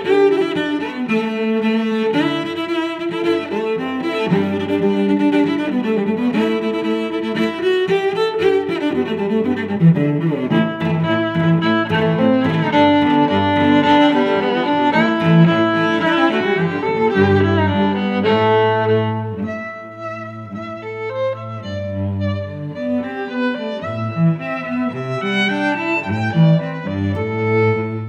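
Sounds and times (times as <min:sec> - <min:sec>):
bowed string music: 0:00.0 - 0:28.0.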